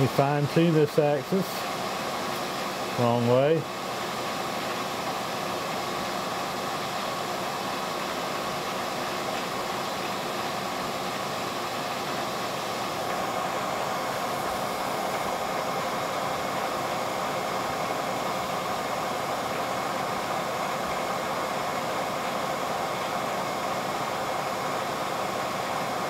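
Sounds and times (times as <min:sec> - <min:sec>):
milling machine humming: 0:00.0 - 0:26.0.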